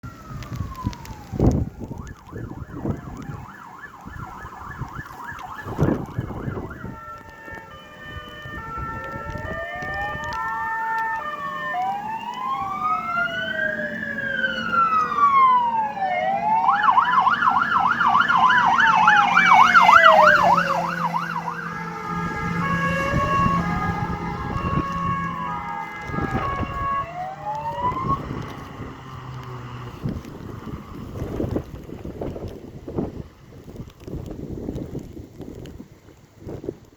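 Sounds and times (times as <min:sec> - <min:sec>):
fire engine sirens: 0:00.0 - 0:34.2.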